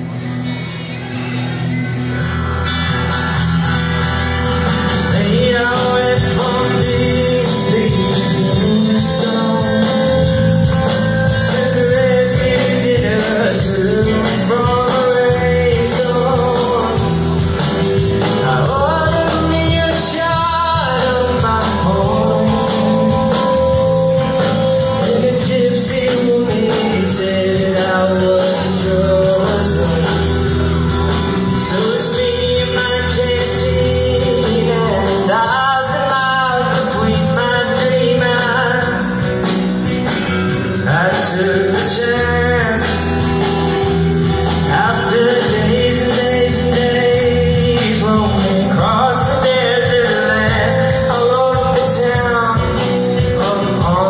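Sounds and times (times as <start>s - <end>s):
acoustic and electric guitars: 0.0s - 54.0s
drums: 0.0s - 54.0s
man singing: 4.6s - 54.0s.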